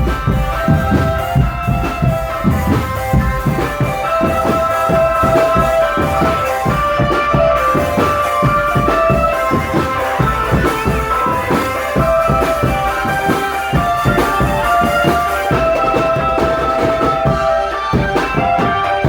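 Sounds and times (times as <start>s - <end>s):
drums beating marching rhythm: 0.0s - 19.0s
melody of held notes: 0.0s - 19.0s.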